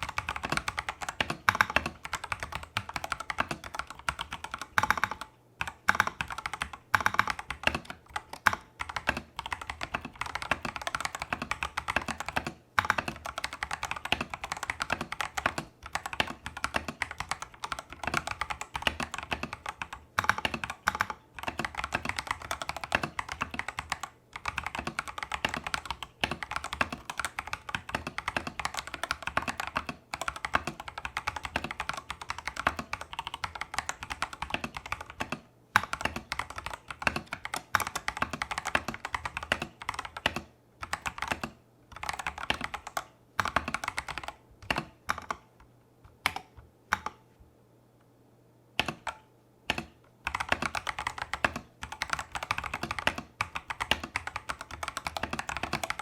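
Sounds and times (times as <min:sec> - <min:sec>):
typing on mechanical keyboard: 0:00.0 - 0:45.5, 0:46.2 - 0:47.2, 0:48.8 - 0:56.0.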